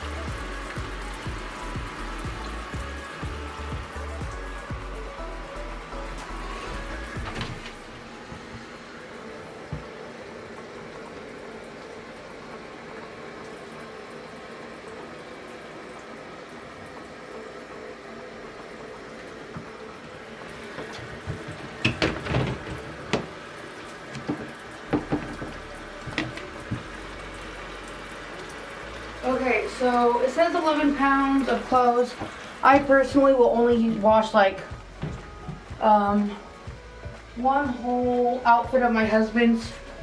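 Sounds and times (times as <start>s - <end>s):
water running into tub: 0.0s - 40.0s.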